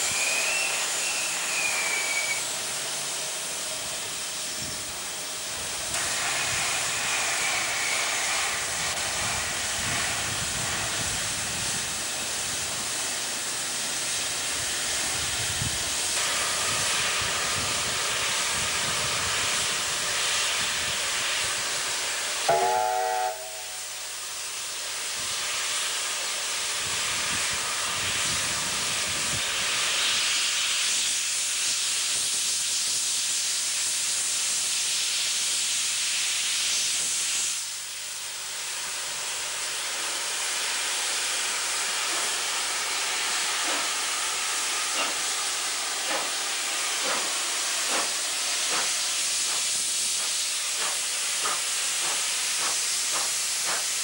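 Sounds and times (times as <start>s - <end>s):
steam hissing: 0.0s - 54.0s.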